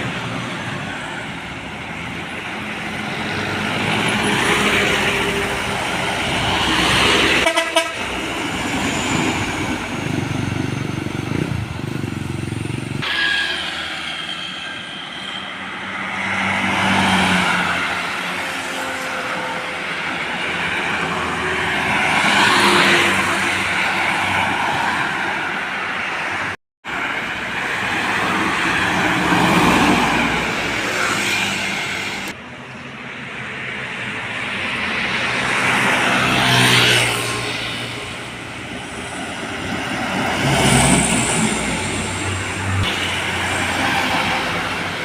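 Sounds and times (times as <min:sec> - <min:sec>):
trucks and buses passing: 0:00.0 - 0:45.0.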